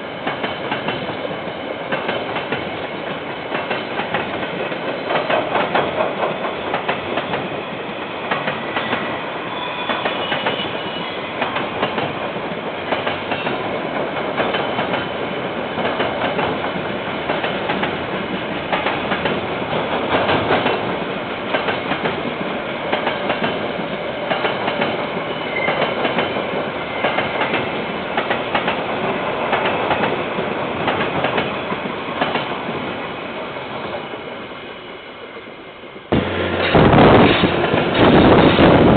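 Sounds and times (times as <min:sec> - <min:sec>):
train wheels clacking over rail joints: 0:00.2 - 0:01.2, 0:01.8 - 0:07.5, 0:08.2 - 0:09.1, 0:09.9 - 0:32.6, 0:36.2 - 0:38.9.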